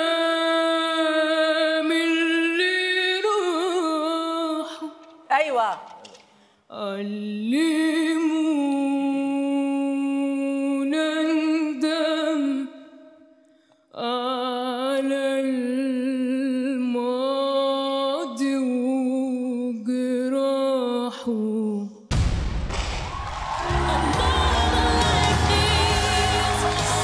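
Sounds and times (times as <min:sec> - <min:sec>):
woman singing unaccompanied: 0:00.0 - 0:05.8, 0:06.7 - 0:12.8, 0:14.0 - 0:22.0, 0:23.7 - 0:27.0.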